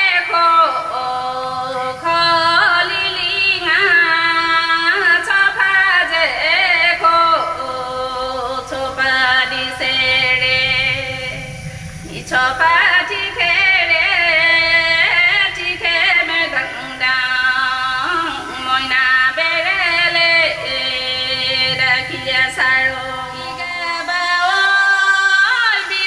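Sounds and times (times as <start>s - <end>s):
woman singing folk song: 0.0s - 26.0s.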